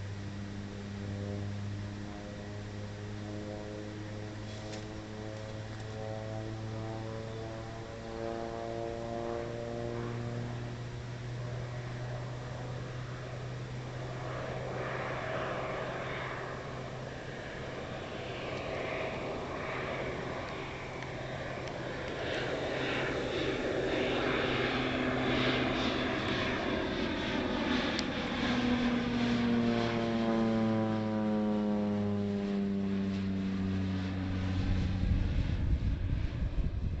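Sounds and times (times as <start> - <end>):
propeller plane flying by: 0.0 - 37.0.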